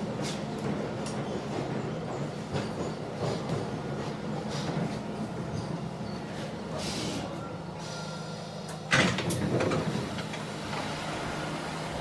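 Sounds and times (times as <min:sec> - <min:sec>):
subway train rumble and hum: 0:00.0 - 0:12.0.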